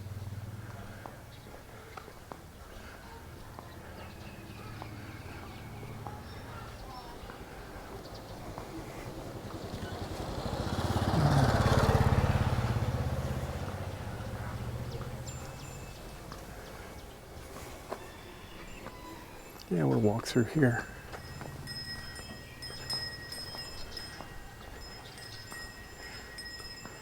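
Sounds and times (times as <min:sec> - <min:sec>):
motorbike passing by: 0:00.0 - 0:19.0, 0:19.8 - 0:27.0.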